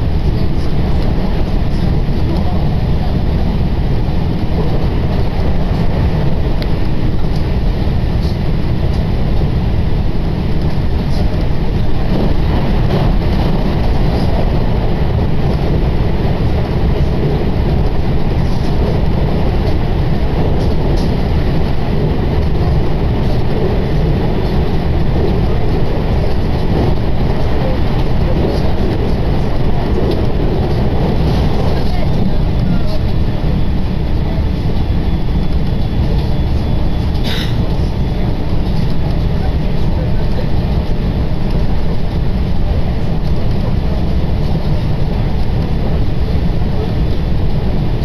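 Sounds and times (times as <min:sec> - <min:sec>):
train rumble inside carriage: 0:00.0 - 0:48.0.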